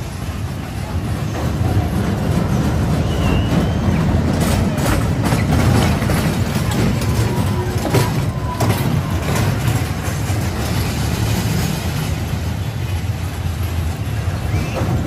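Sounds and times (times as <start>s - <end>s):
roller coaster cars rumbling on track: 0.0s - 15.0s
sharp clacks of cars and track: 0.0s - 15.0s.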